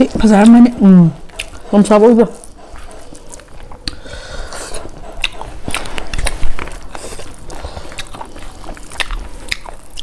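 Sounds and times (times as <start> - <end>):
chewing and mouth clicks: 0.0 - 10.0.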